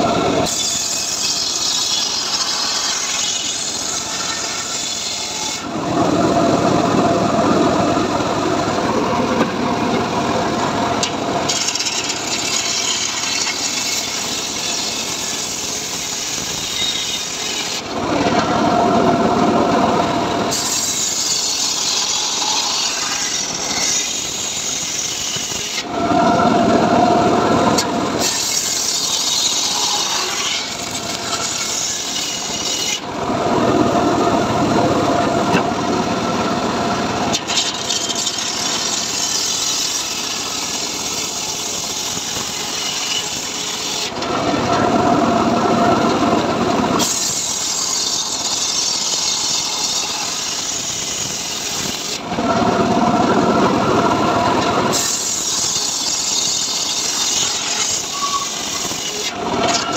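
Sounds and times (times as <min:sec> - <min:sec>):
circular saw cutting wood: 0:00.0 - 0:59.9.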